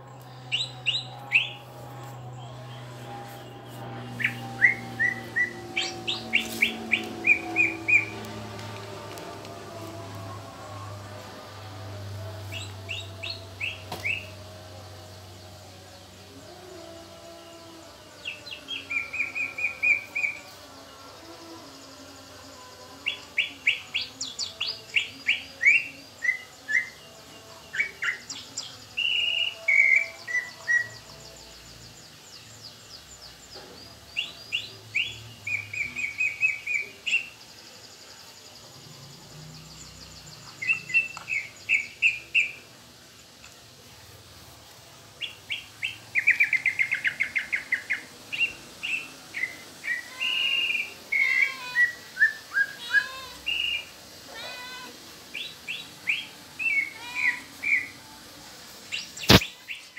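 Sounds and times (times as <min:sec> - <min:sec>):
recorded bird song through speaker: 0:00.0 - 0:59.9.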